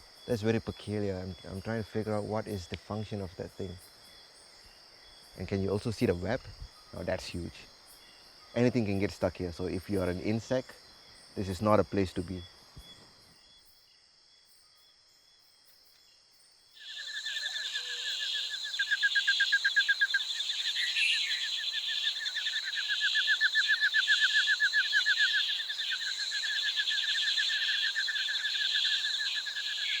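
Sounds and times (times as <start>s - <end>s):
faint insect buzz: 0.0s - 30.0s
night insects trilling: 0.0s - 30.0s.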